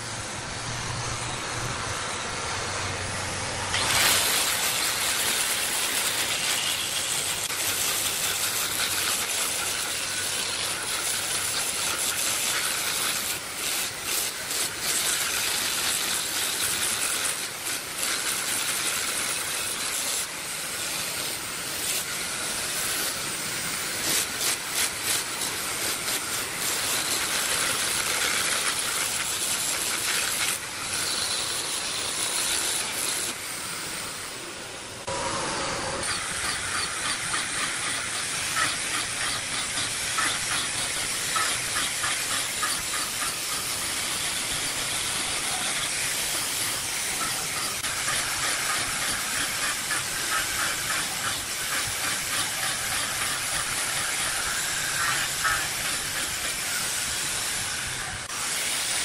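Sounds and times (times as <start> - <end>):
woodworking machine cutting hiss: 0.0 - 59.0.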